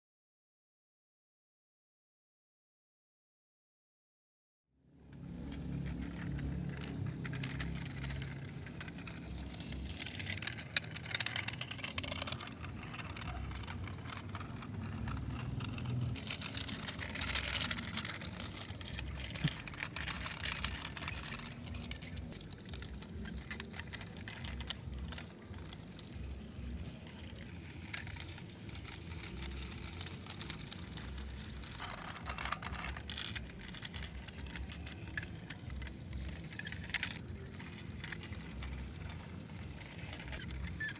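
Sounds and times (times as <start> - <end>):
low background rumble: 5.0 - 40.9
toy truck wheels crunching dirt: 5.0 - 40.9.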